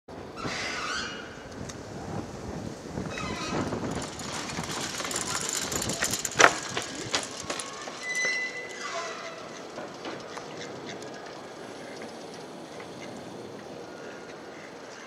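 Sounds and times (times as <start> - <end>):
outdoor city ambience: 0.1 - 15.0.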